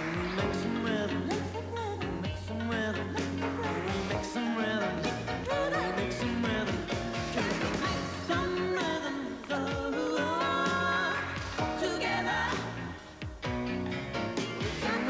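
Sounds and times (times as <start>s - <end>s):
pop song with singer and band: 0.0s - 15.0s.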